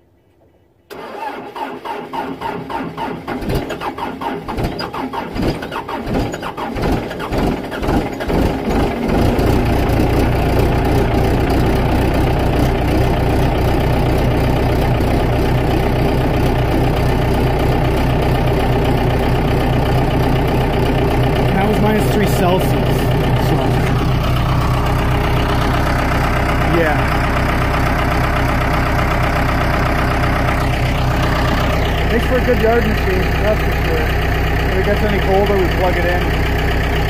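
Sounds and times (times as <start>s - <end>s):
diesel engine cranking: 0.9s - 37.0s
diesel engine idling: 0.9s - 37.0s.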